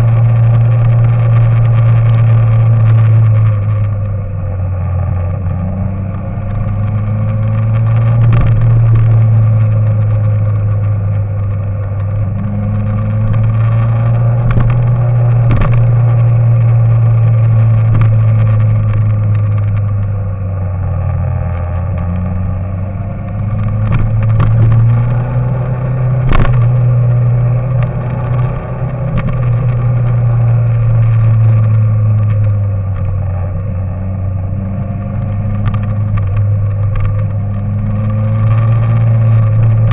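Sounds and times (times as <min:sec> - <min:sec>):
low motor-like drone: 0:00.0 - 0:39.9.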